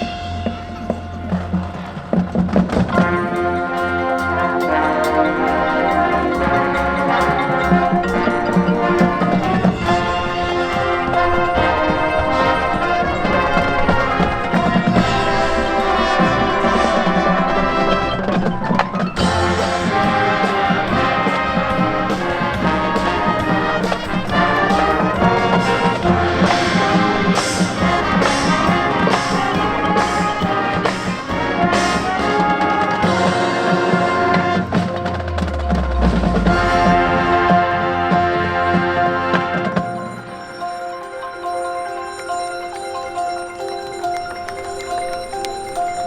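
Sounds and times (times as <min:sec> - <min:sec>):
brass chords: 0:00.0 - 0:46.0
drum and wood-block strokes: 0:00.0 - 0:46.0
marching band playing: 0:00.0 - 0:46.0.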